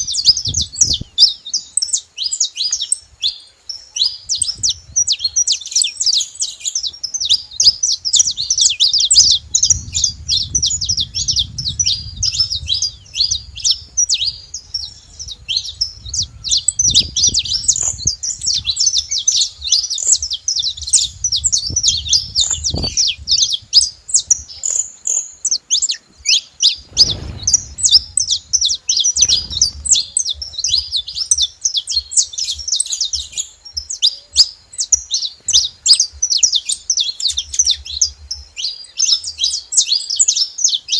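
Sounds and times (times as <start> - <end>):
finches chirping and trilling: 0.0 - 40.9.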